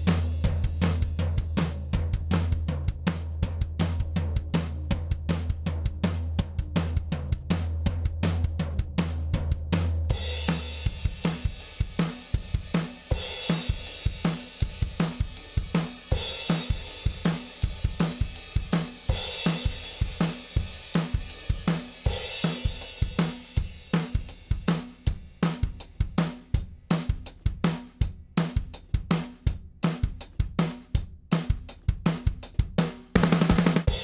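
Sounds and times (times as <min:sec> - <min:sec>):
drum kit beat: 0:00.0 - 0:34.0.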